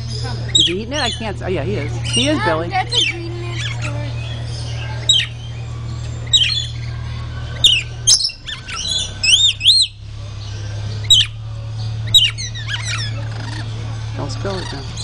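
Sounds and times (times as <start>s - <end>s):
parrots screeching: 0.0s - 1.4s, 2.0s - 15.0s
steady low hum: 0.0s - 15.0s.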